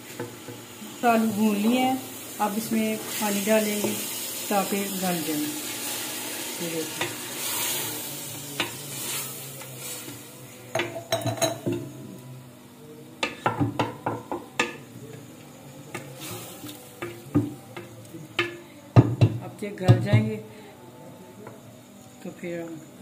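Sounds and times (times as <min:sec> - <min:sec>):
pan sizzling: 0:00.0 - 0:12.2, 0:13.2 - 0:20.4.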